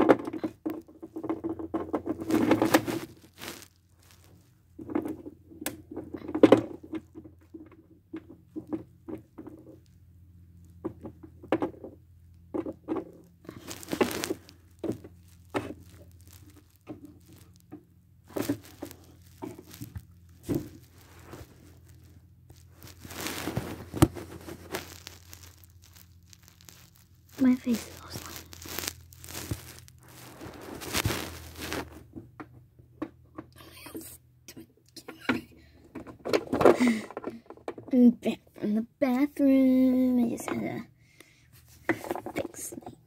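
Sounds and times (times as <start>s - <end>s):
rustling of handling: 0.1s - 34.2s, 40.0s - 43.0s.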